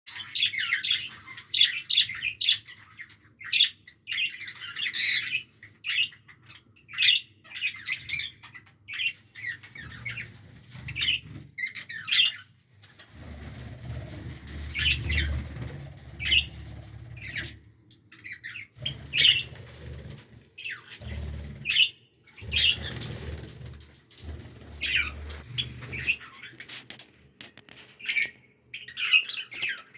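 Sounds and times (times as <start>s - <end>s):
parrot chicks chirping and squawking: 0.1s - 29.9s.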